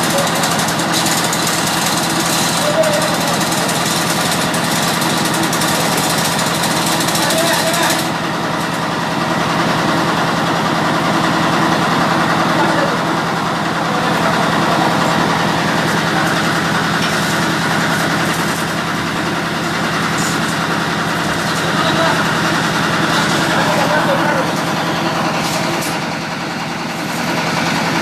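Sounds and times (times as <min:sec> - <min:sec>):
heavy engine idling: 0:00.0 - 0:28.0.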